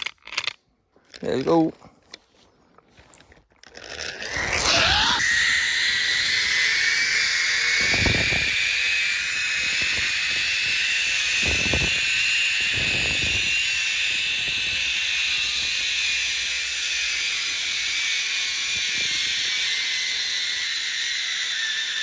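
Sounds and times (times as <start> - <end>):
zip-line pulleys whining on cable: 3.6 - 22.0.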